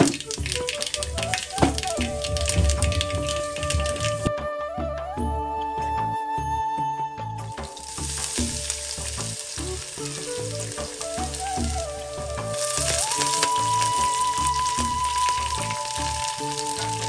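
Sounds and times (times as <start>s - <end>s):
food sizzling in hot oil: 0.0s - 4.3s, 7.6s - 17.0s
background music: 0.0s - 17.0s.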